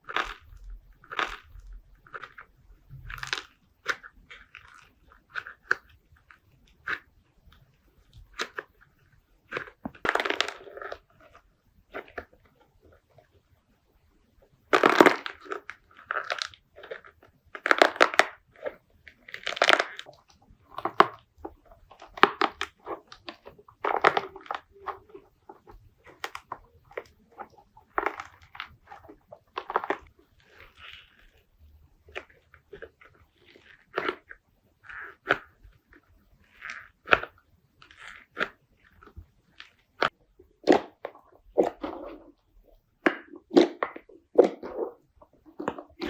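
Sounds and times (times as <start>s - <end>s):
slime squishing and crackling: 0.0s - 13.4s, 14.5s - 46.0s.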